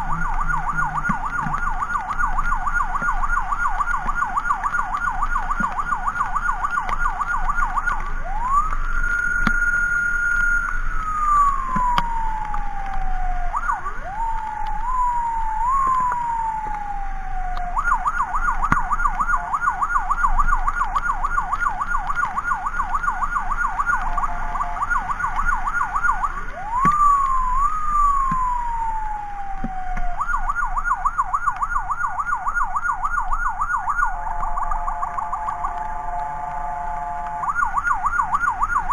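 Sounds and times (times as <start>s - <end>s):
electronic emergency siren: 0.0s - 38.9s.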